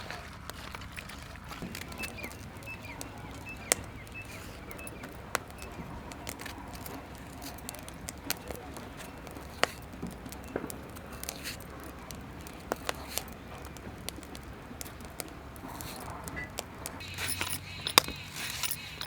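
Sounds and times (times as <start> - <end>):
kitchen utensils clicking and knocking: 1.6 - 19.0.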